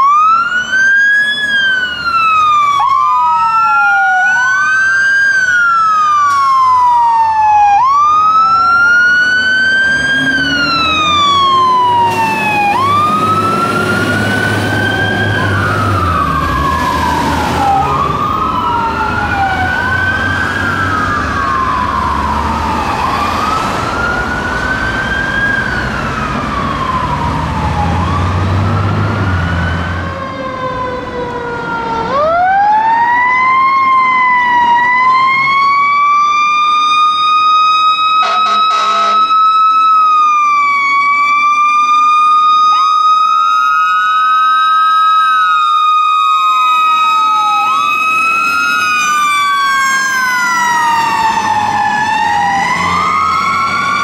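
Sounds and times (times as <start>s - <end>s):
fire engine sirens wailing: 0.0s - 54.0s.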